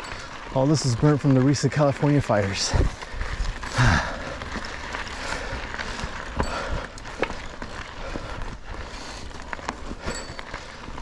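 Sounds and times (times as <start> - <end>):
bike clicks and rattles: 0.0 - 11.0
bike tyres rushing on dirt: 0.0 - 11.0.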